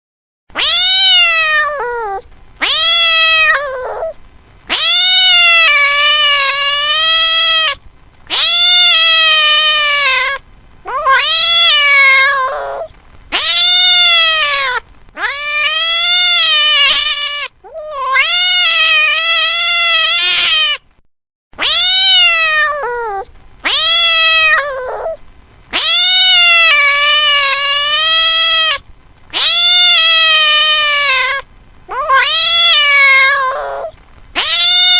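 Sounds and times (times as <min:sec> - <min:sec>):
cat meowing loudly: 0:00.5 - 0:20.9, 0:21.6 - 0:34.9.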